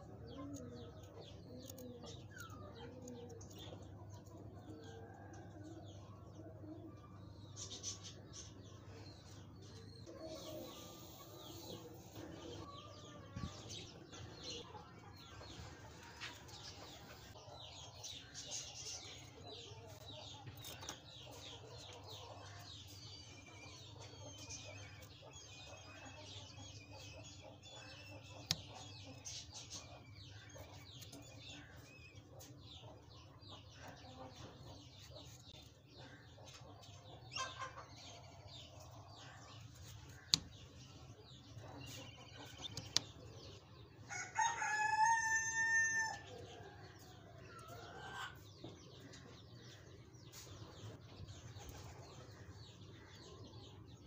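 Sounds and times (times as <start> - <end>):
chickens clucking: 0.0 - 54.0
small birds chirping: 0.0 - 54.0.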